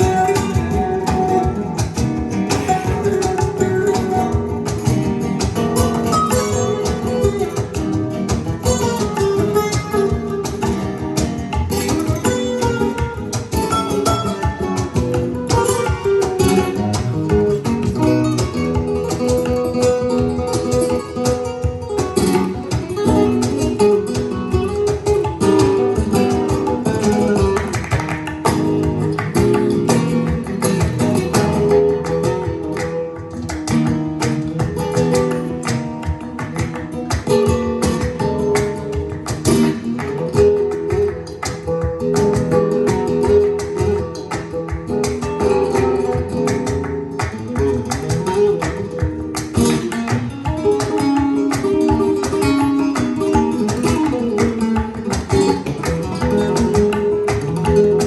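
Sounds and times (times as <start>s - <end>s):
acoustic guitar music: 0.0s - 58.0s.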